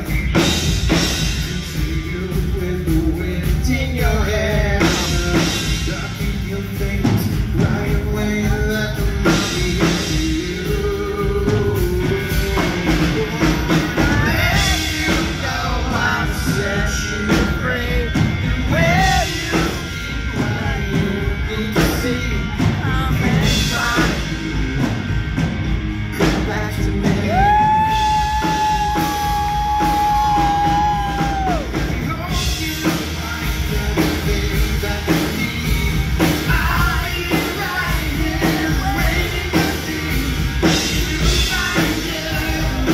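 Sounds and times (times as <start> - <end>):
drums: 0.0 - 42.9
man singing lead: 0.0 - 42.9.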